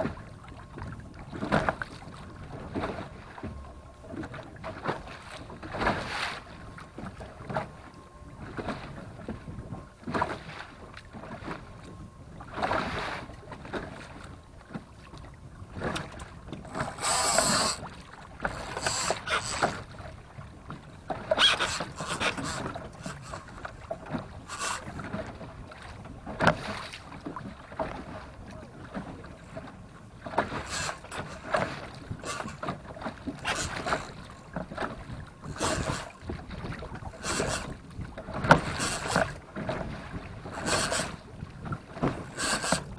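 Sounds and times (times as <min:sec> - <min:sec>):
water slapping boat hull: 0:00.0 - 0:42.9.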